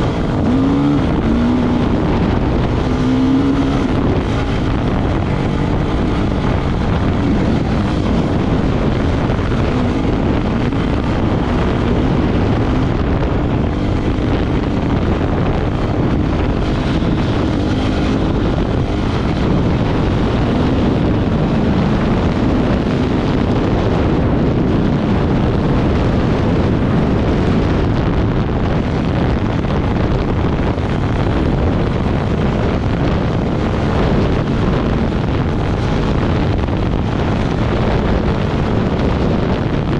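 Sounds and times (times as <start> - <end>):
wind buffeting on microphone: 0.0 - 39.9.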